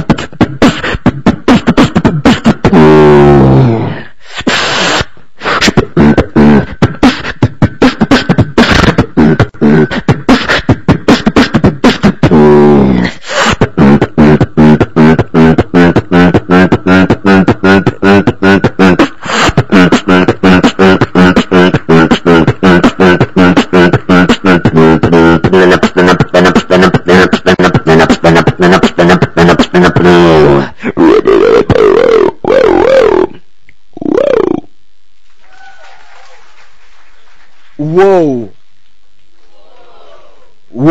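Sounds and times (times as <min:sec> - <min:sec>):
falling vocal sweep: 0:00.0 - 0:34.7
person beatboxing: 0:00.0 - 0:34.8.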